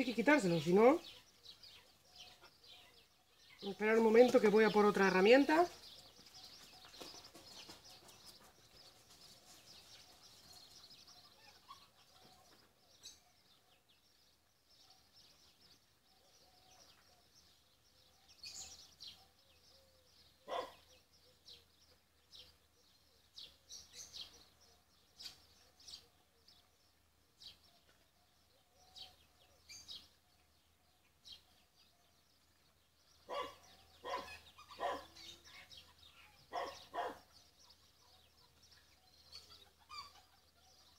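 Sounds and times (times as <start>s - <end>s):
faint bird chirps: 5.7s - 40.9s.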